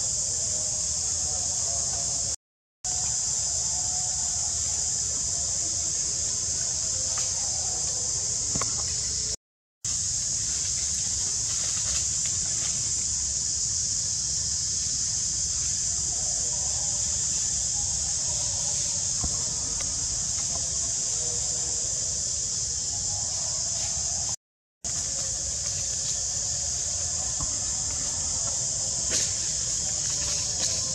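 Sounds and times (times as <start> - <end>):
insect chorus drone: 0.0 - 30.9.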